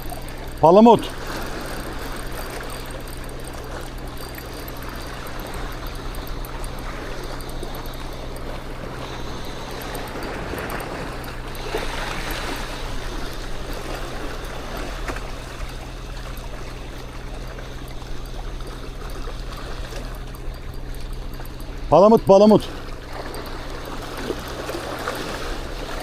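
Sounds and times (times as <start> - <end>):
low motor hum: 0.0 - 26.0
water splashing and rushing: 0.0 - 26.0.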